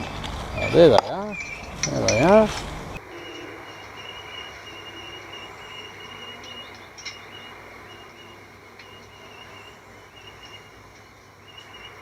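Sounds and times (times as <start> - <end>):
insect trilling: 0.0 - 12.0
low outdoor hiss: 0.0 - 12.0.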